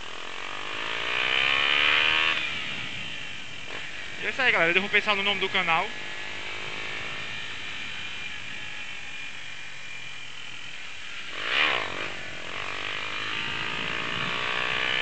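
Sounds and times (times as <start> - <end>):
motorcycle engine running: 0.0 - 15.0
wind noise: 1.2 - 15.0.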